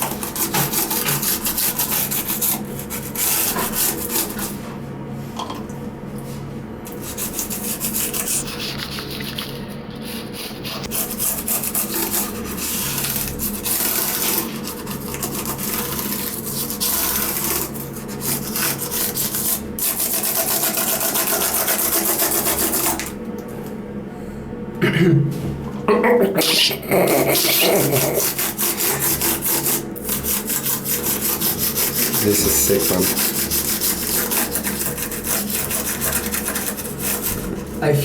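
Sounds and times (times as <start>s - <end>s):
scrubbing a laptop keyboard: 0.0s - 4.7s, 7.0s - 23.1s, 27.1s - 37.8s.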